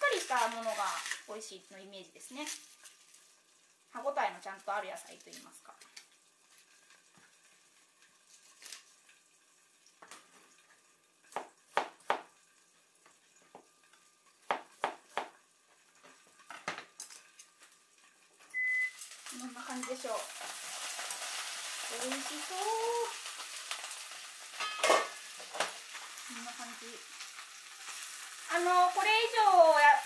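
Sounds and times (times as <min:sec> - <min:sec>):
greens sizzling in oil: 0:00.0 - 0:30.0.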